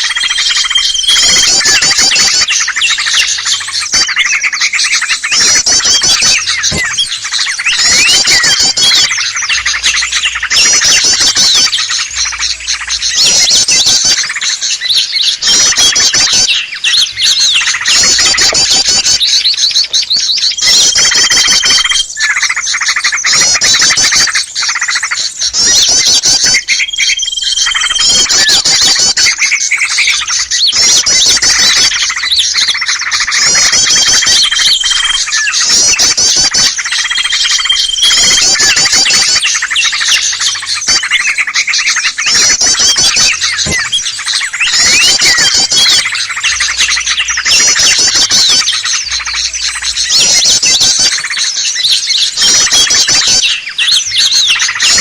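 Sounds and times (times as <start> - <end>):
steady held whistle: 0.0 - 24.4, 25.5 - 55.0
small birds chattering and calling: 0.0 - 55.0.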